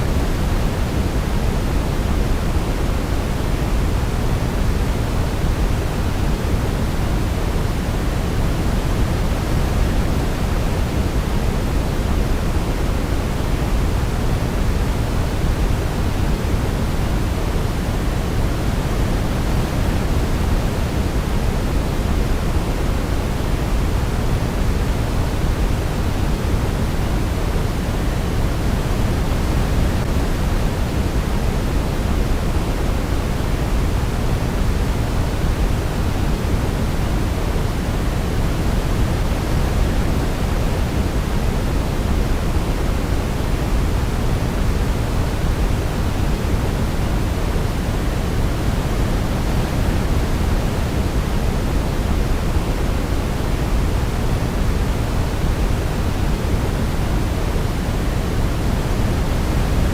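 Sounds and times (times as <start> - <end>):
steady low hiss noise: 0.0 - 59.9.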